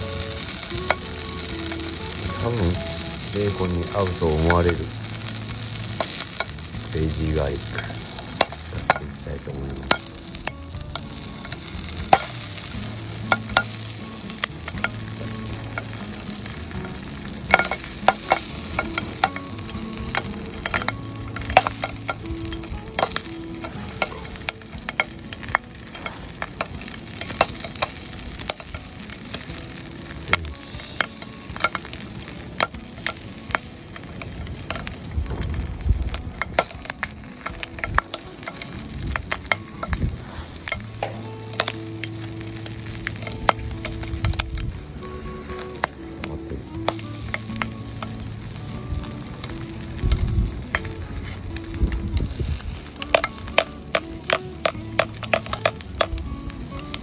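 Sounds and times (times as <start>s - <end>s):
bacon sizzling in a pan: 0.0s - 57.0s
fat popping and crackling: 0.0s - 57.0s.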